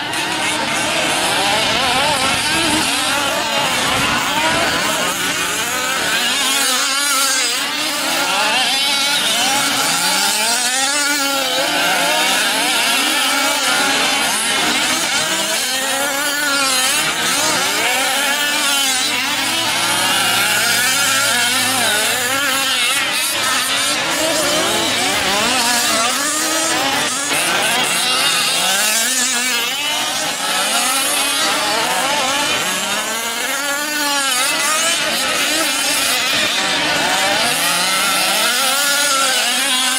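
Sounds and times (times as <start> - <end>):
small two-stroke engines revving: 0.0 - 39.9.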